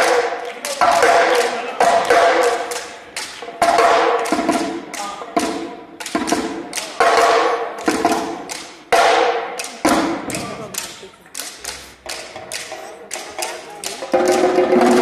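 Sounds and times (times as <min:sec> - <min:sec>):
hand drum ensemble playing: 0:00.0 - 0:15.0.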